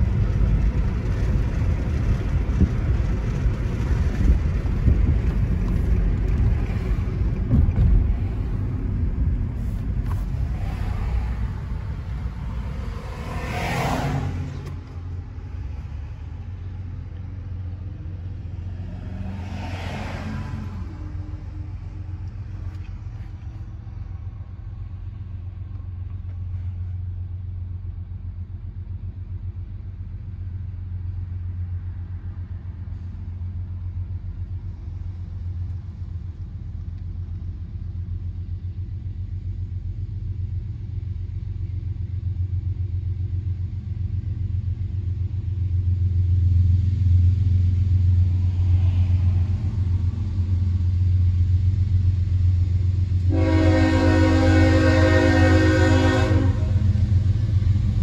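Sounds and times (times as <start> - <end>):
diesel locomotive rumble: 0.0 - 58.0.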